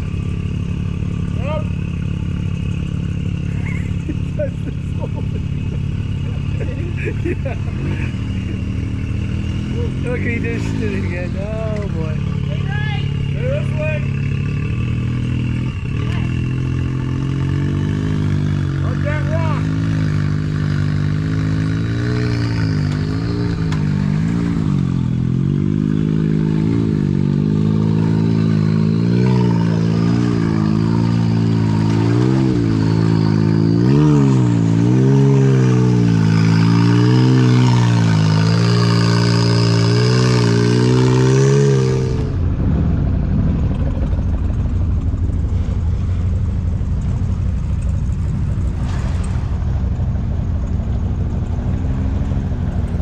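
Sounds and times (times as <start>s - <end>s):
engine revving: 0.0s - 53.0s
low engine rumble: 0.0s - 53.0s.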